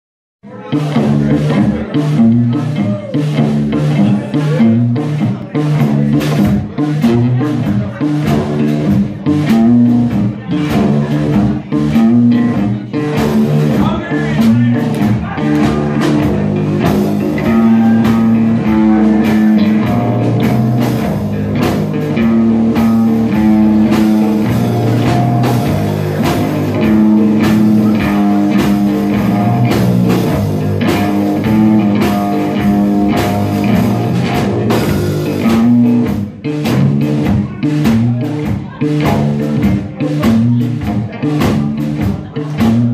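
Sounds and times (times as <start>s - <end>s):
bass guitar: 0.4s - 42.9s
electric guitar: 0.4s - 42.9s
drum kit: 0.5s - 42.9s.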